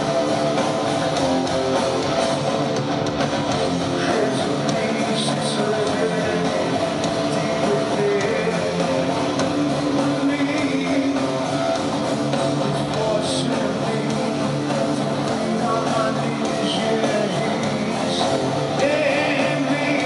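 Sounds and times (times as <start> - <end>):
distorted electric guitars: 0.0 - 20.0
drums: 0.0 - 20.0.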